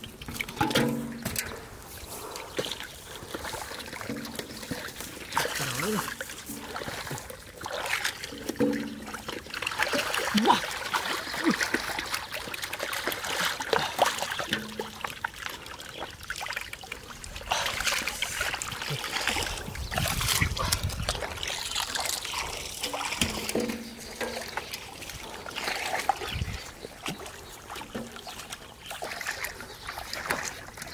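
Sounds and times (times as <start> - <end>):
feet wading through water: 0.0 - 30.9
water splashing and sloshing: 0.0 - 30.9
water trickling through mesh: 0.0 - 30.9.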